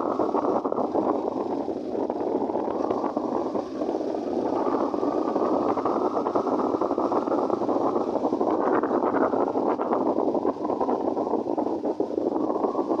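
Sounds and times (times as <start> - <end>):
wind and engine rushing noise: 0.0 - 13.0.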